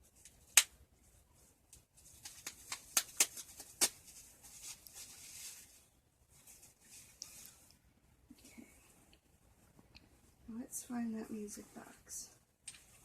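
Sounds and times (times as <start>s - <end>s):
soft rustling: 0.0s - 13.0s.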